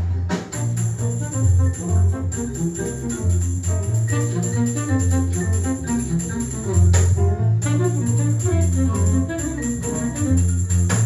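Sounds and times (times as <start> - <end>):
recorded music over loudspeakers: 0.0 - 11.0.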